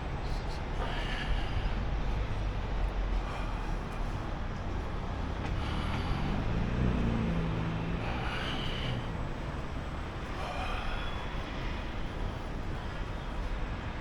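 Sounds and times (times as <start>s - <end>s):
low rumble of traffic: 0.0s - 14.0s
vehicle engine hum: 0.0s - 14.0s.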